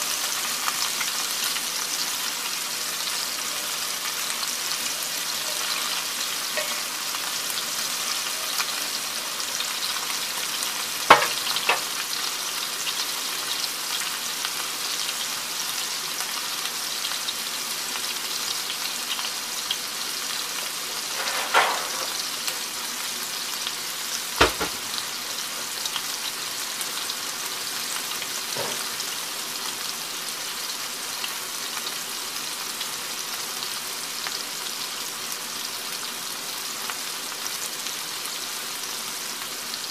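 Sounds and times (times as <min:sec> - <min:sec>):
meatballs sizzling in oil: 0:00.0 - 0:39.9.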